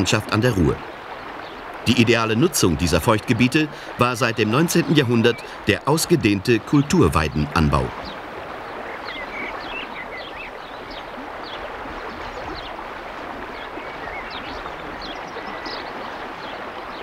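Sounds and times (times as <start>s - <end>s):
river water rushing over gravel: 0.0s - 17.0s.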